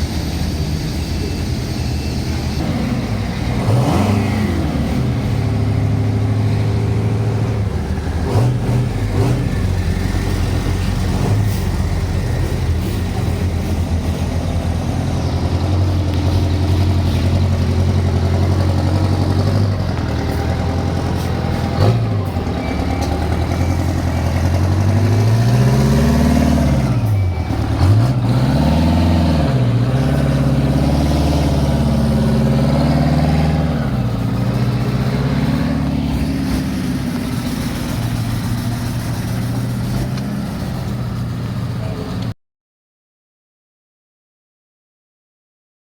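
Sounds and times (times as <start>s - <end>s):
truck diesel engine revving: 0.0s - 42.3s.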